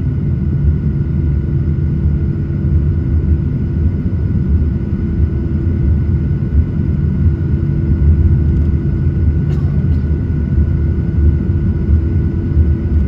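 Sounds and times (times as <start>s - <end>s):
jet engines rumbling in cabin: 0.0s - 13.0s
thin constant engine whine: 0.0s - 13.0s.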